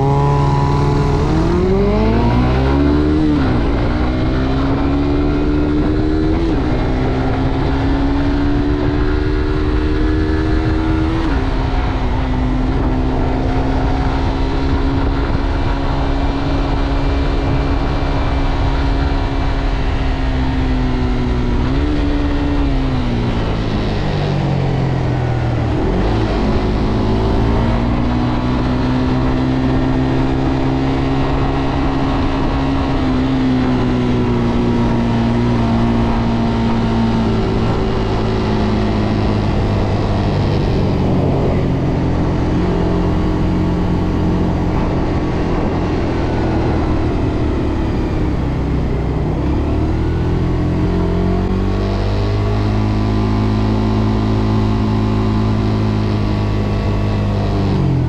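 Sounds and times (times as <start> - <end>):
motorcycle engine while riding: 0.0 - 58.0
wind and road noise: 0.0 - 58.0.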